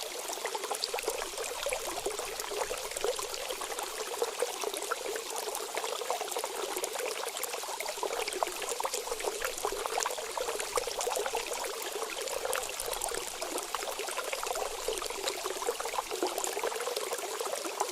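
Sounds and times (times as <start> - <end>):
water trickling and splashing: 0.0 - 17.9.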